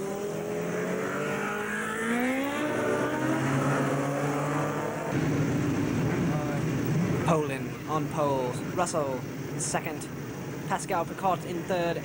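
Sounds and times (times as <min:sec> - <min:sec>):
motorcycle engines revving: 0:00.0 - 0:10.7.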